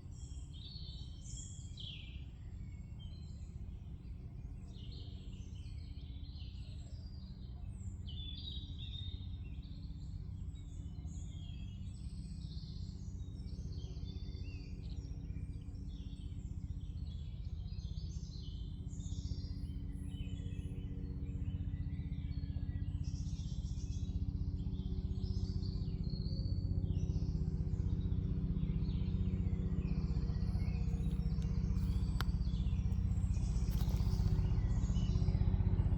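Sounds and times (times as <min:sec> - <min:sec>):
low steady rumble: 0:00.0 - 0:35.9
songbirds singing and chirping: 0:00.0 - 0:35.9.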